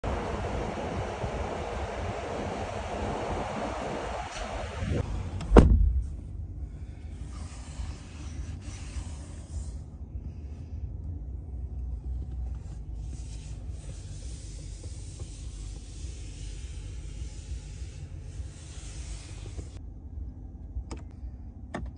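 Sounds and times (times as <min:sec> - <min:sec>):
low rumble inside truck cab: 0:00.0 - 0:21.9.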